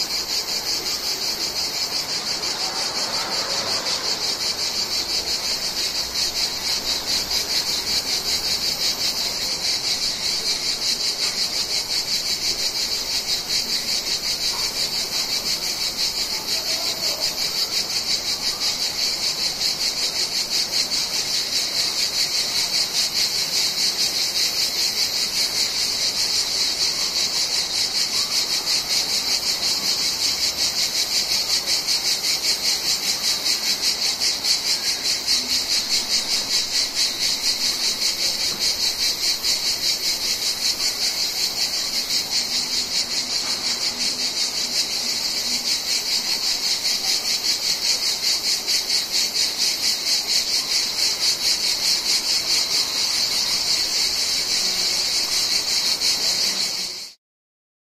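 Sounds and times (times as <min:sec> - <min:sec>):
cicadas singing: 0:00.0 - 0:57.2.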